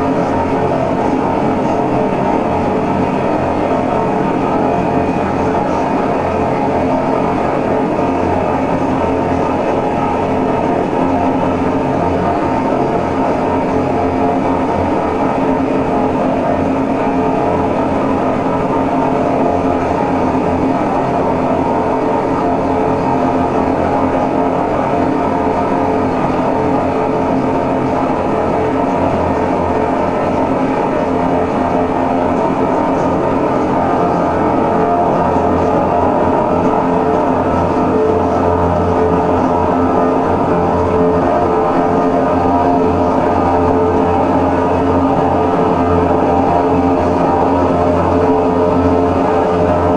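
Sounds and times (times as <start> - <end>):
electronic drone music: 0.0 - 49.9.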